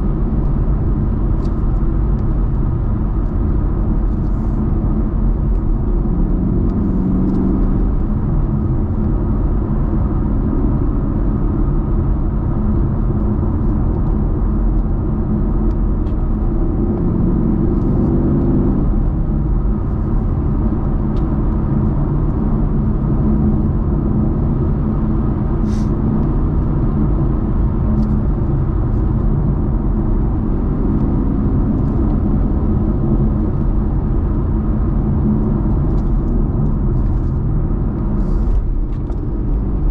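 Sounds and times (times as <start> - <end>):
car engine cruising rumble: 0.0 - 39.9
road noise: 0.0 - 39.9.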